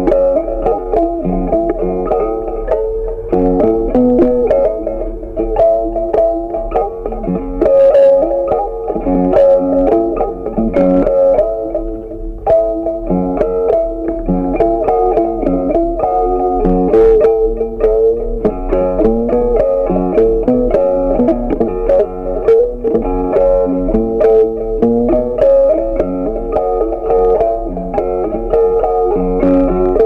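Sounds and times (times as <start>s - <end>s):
instrumental music: 0.0s - 30.0s.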